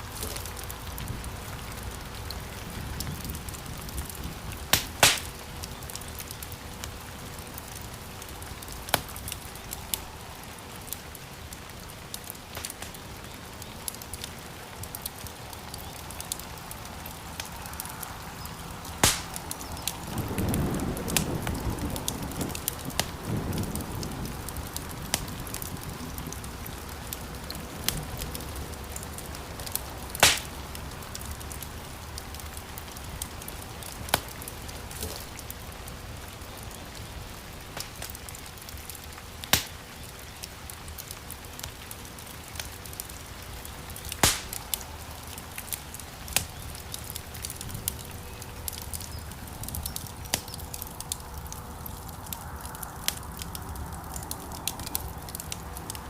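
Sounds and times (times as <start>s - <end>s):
fire crackles and pops: 0.0s - 56.0s
wood fire hissing: 0.0s - 56.0s.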